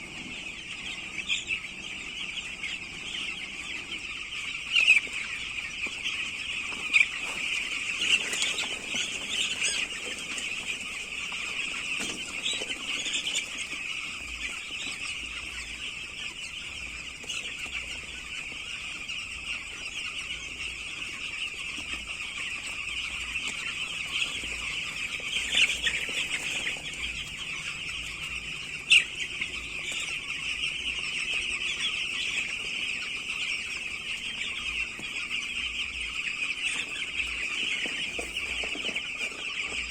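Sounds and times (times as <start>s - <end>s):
flock of chickens calling: 0.0s - 39.9s.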